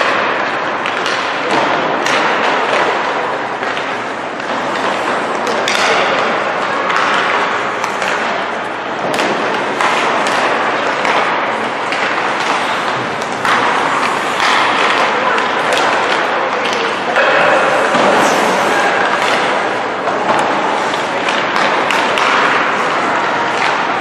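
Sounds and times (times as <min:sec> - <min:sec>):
pucks clacking off sticks: 0:00.0 - 0:24.0
pucks thudding against boards: 0:00.0 - 0:24.0
skates on ice: 0:00.0 - 0:24.0.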